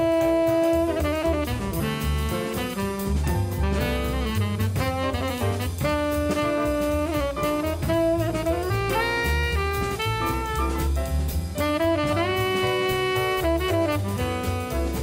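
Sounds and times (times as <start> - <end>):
drum kit: 0.0 - 15.0
saxophone melody: 0.0 - 15.0.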